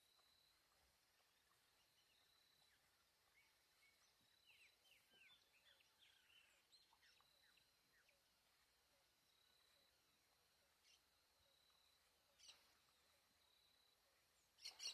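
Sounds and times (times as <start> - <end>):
faint bird chirps: 0.0 - 14.9.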